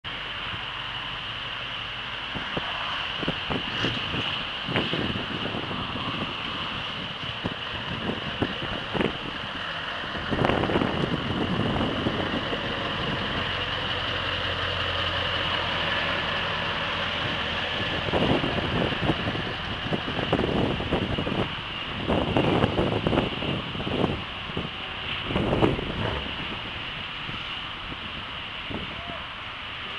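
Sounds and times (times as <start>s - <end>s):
truck diesel engine passing: 0.1s - 29.9s
wind buffeting microphone: 2.3s - 29.7s.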